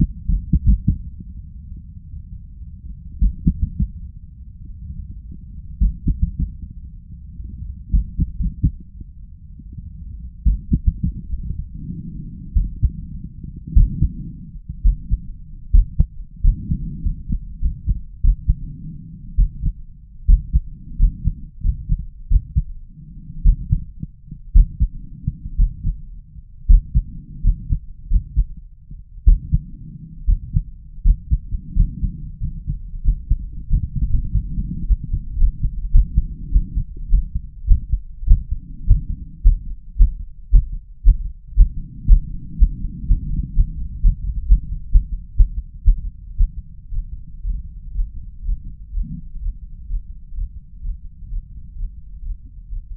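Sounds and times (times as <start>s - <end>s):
heartbeat through stethoscope: 0.0s - 1.1s, 3.1s - 4.0s, 5.1s - 6.7s, 7.5s - 8.9s, 9.6s - 52.9s.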